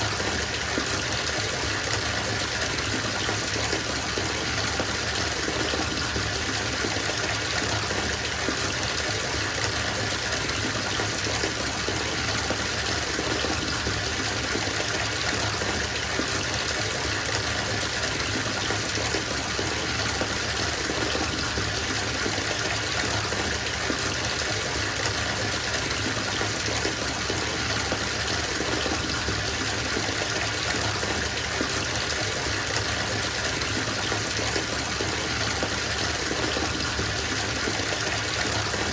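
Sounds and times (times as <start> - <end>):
water pouring into bathtub: 0.0 - 38.9.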